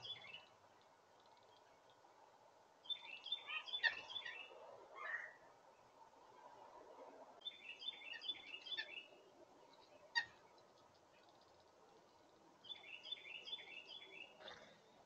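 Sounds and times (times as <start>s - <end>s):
songbird singing: 0.0s - 6.5s, 7.4s - 15.0s.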